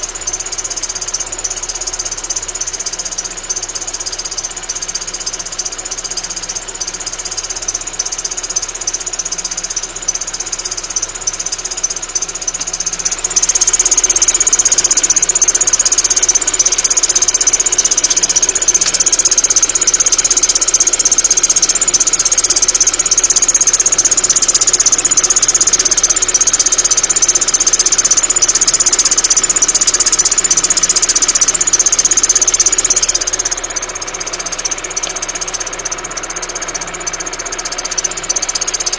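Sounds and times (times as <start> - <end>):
car engine idling: 0.0 - 38.9
drive belt whistling: 0.0 - 38.9.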